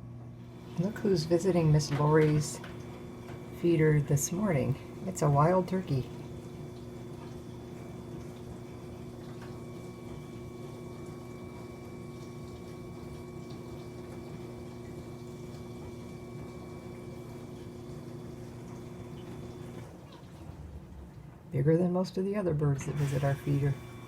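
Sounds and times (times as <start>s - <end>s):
low two-tone hum: 0.0s - 24.0s.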